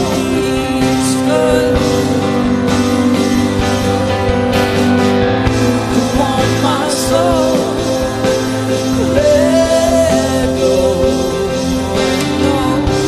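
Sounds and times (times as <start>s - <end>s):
worship band music: 0.0s - 13.0s.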